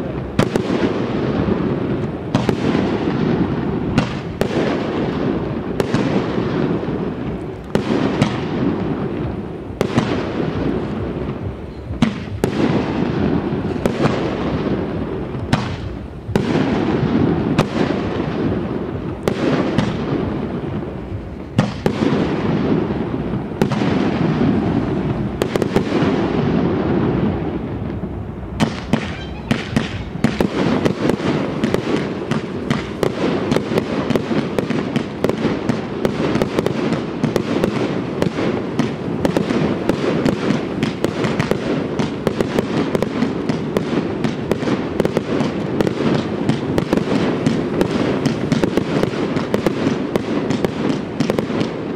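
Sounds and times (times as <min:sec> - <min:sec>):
fireworks bursting with sharp cracks: 0:00.0 - 0:51.9
rapid fireworks crackle: 0:00.0 - 0:51.9.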